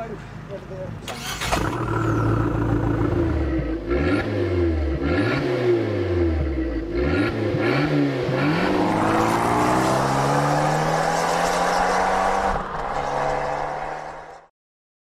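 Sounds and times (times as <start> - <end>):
car engine revving: 1.2 - 14.5.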